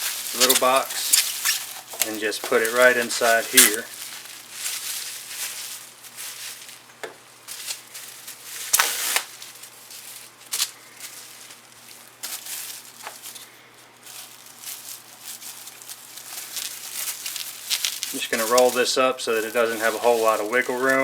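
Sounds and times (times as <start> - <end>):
plastic wrap crinkling: 0.0 - 21.0.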